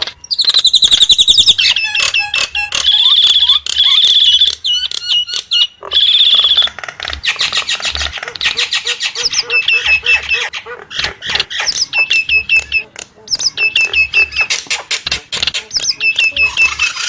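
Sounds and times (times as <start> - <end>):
starling singing: 0.0 - 17.0.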